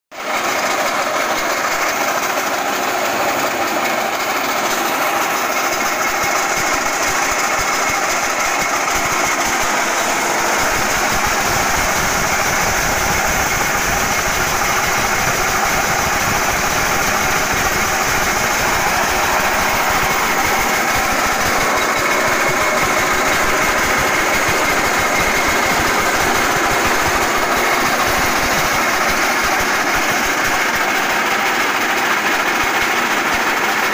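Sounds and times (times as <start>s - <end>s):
forage chopper engine running: 0.1s - 33.9s.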